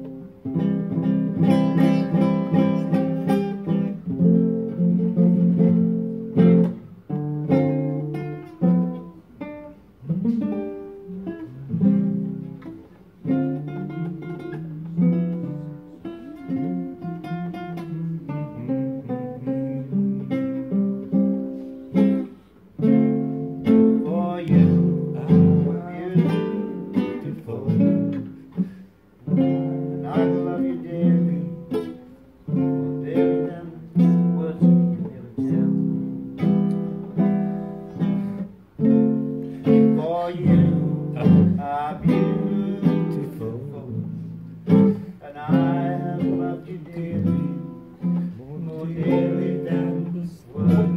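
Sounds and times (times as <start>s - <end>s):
acoustic guitar strumming: 0.0s - 50.9s.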